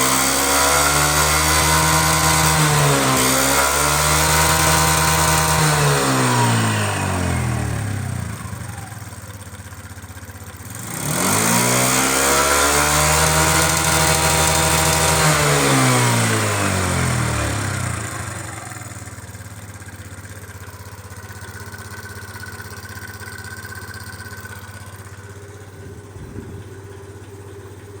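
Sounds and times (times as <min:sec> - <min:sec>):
scooter engine revving and idling: 0:00.0 - 0:28.0.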